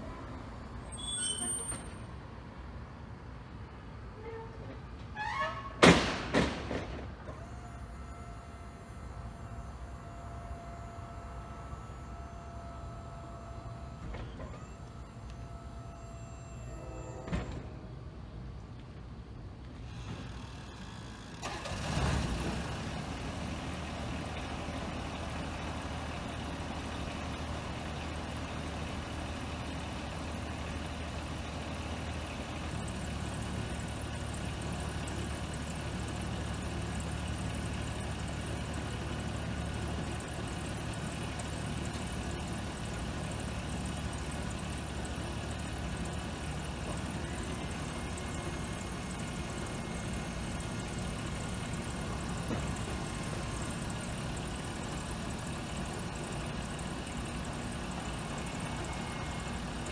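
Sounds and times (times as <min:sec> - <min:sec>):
truck engine idling: 0:05.4 - 0:59.9.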